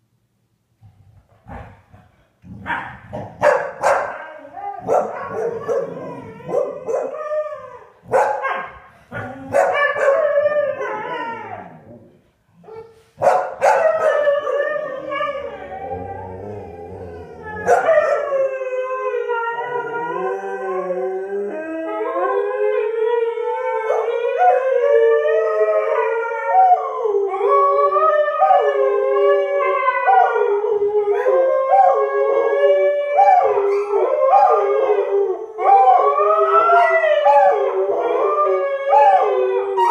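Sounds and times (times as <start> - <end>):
dogs howling: 3.7 - 12.1, 13.6 - 39.9.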